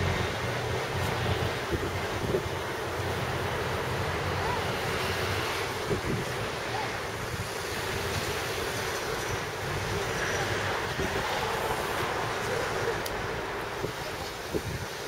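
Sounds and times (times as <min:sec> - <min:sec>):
road traffic rumble: 0:00.0 - 0:15.0
wind on microphone: 0:00.0 - 0:15.0.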